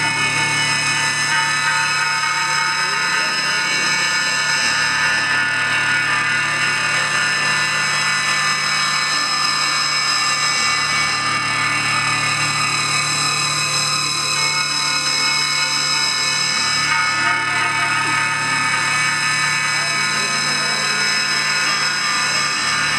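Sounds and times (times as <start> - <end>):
electronic noise drone: 0.0 - 22.9.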